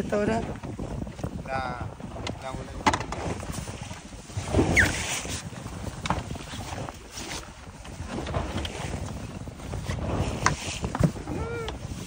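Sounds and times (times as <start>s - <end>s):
small boat on sea: 0.0s - 12.0s
wind buffeting microphone: 0.0s - 12.0s.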